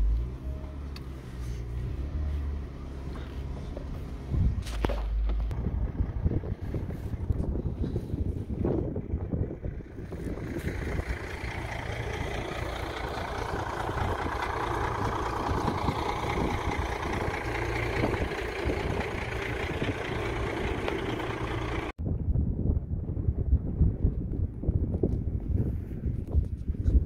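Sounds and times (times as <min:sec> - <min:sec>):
truck engine running: 0:00.0 - 0:22.0
wind buffeting microphone: 0:04.2 - 0:04.8, 0:05.5 - 0:27.0.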